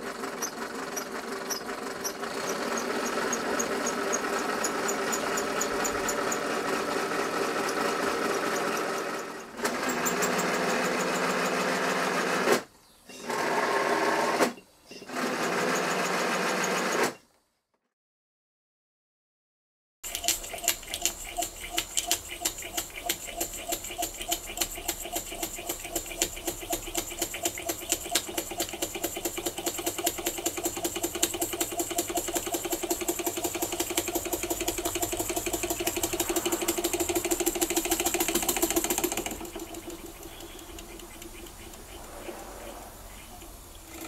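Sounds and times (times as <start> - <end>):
toy steam engine exhaust beats: 0.0 - 12.2, 20.1 - 44.0.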